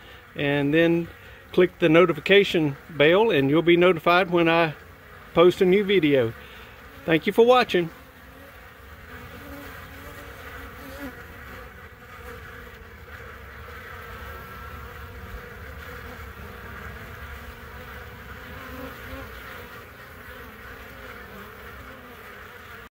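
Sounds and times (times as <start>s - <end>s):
honeybees buzzing: 0.0s - 22.9s.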